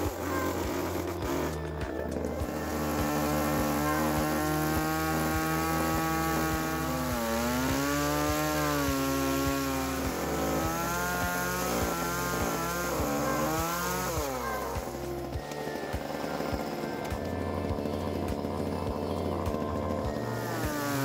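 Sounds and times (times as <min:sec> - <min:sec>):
background music with steady beat: 0:00.0 - 0:21.0
chainsaw cutting log: 0:00.0 - 0:21.0.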